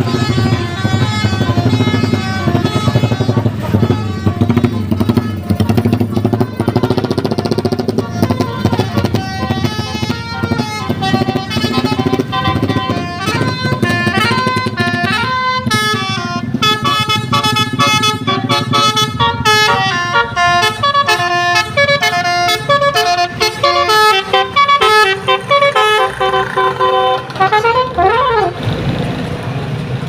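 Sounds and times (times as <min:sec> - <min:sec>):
musical horn melody: 0:00.0 - 0:28.6
low engine rumble: 0:00.0 - 0:30.0.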